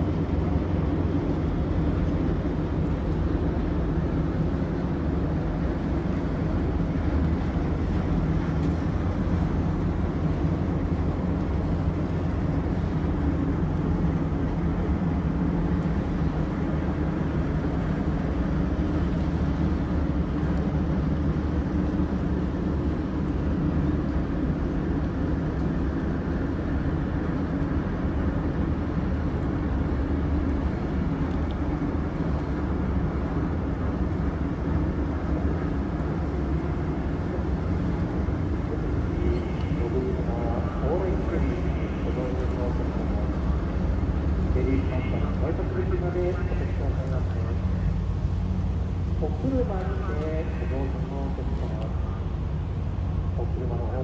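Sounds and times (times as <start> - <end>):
ship diesel engines droning: 0.0 - 54.0.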